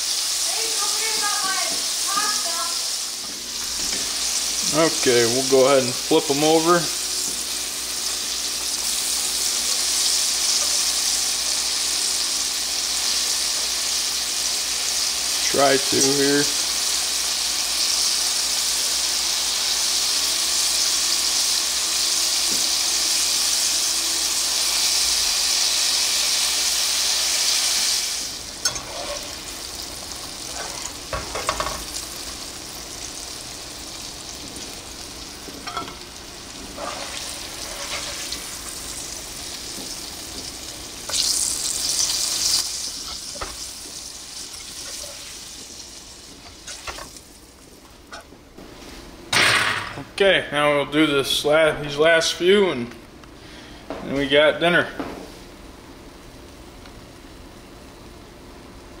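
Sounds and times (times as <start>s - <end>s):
deep-frying sizzle and bubbling: 0.0s - 48.9s.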